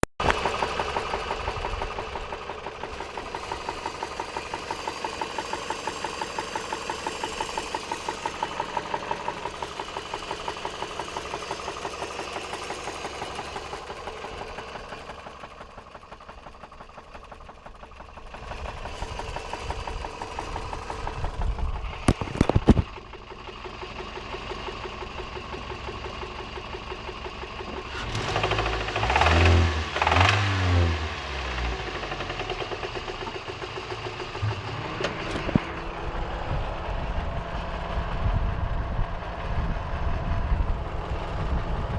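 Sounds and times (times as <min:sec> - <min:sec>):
car engine knocking: 0:00.2 - 0:41.9.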